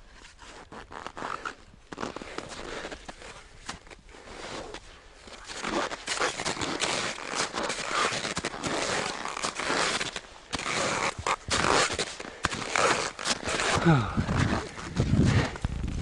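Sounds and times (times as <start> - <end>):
boots crunching in snow: 0.5 - 16.0.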